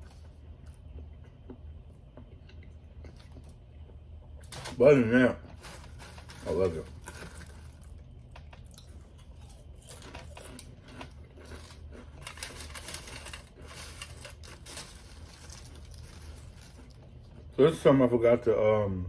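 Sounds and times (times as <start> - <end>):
person chewing food: 0.0 - 4.6, 5.5 - 17.6
low steady hum: 0.0 - 19.0.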